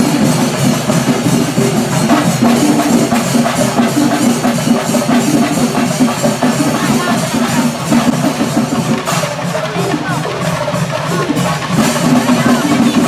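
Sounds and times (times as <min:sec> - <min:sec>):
drums fast beat: 0:00.0 - 0:13.0.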